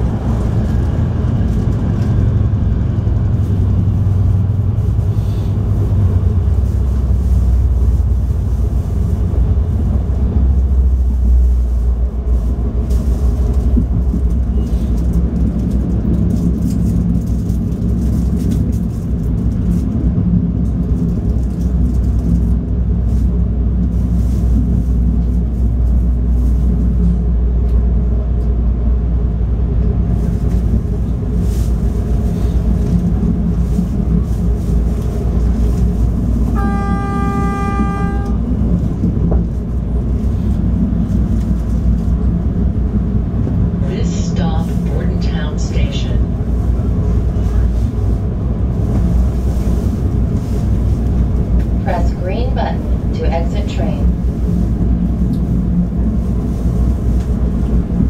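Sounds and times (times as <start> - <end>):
train engine and wheels rumbling: 0.0 - 58.0.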